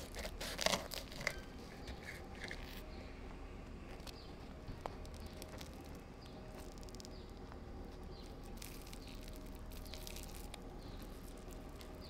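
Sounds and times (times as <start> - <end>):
bread crust crackling as torn: 0.0 - 2.9, 4.8 - 12.0
low hum: 0.0 - 12.0.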